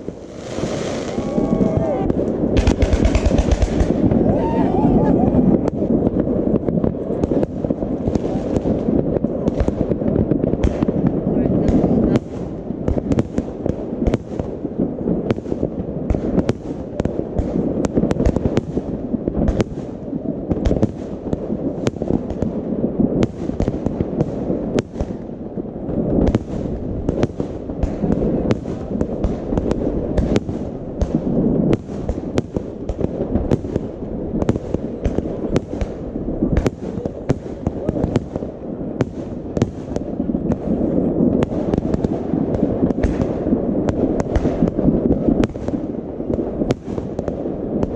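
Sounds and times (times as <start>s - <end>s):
fireworks rumble: 0.0s - 47.9s
sharp firework bangs: 0.0s - 47.9s.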